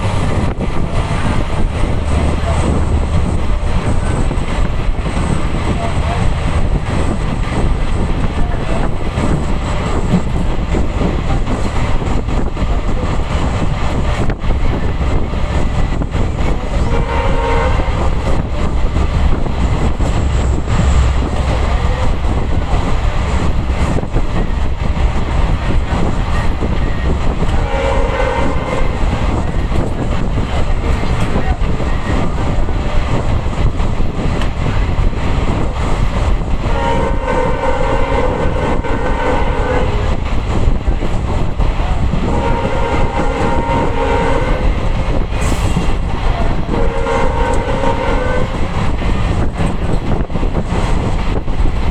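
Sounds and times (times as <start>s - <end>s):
diesel locomotive engine humming: 0.0s - 51.9s
train running gear rumble: 0.0s - 51.9s.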